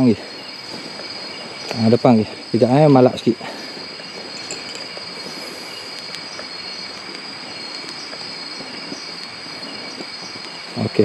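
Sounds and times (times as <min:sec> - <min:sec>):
crickets trilling: 0:00.0 - 0:11.0
even hiss: 0:00.0 - 0:11.0.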